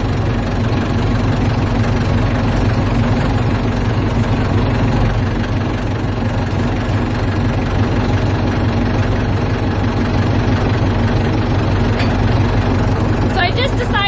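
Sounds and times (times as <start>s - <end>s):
backhoe engine idling: 0.0s - 14.0s.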